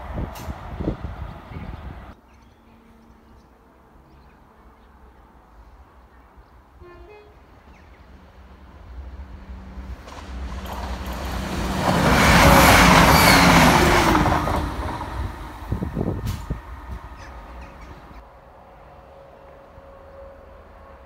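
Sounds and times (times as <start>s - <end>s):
diesel train passing: 0.0s - 2.2s, 2.8s - 21.0s.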